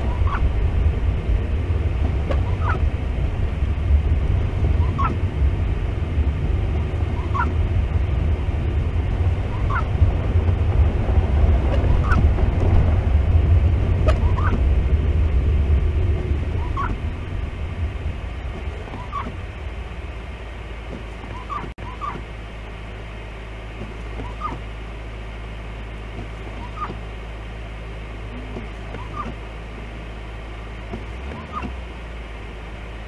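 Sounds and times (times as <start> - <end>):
windshield wipers squeaking: 0.0 - 5.7, 6.4 - 22.4, 23.7 - 24.8, 26.0 - 27.2, 28.3 - 30.0, 30.8 - 31.9
car engine and tyres on snow: 0.0 - 33.0.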